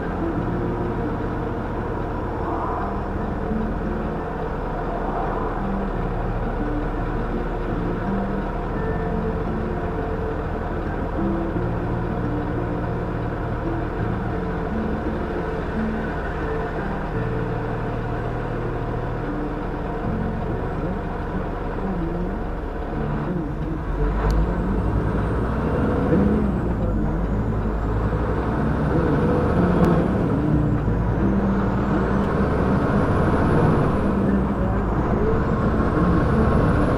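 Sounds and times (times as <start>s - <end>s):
vehicle engine idling and driving: 0.0s - 36.9s.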